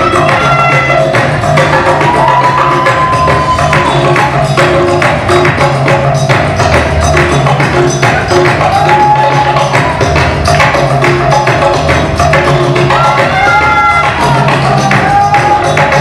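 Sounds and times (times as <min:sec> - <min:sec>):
percussion-heavy dance music: 0:00.0 - 0:16.0.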